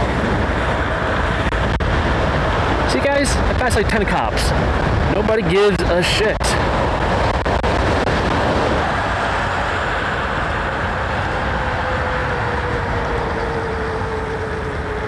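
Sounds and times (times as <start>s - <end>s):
road noise: 0.0s - 15.0s
wind rushing over microphone: 0.0s - 15.0s.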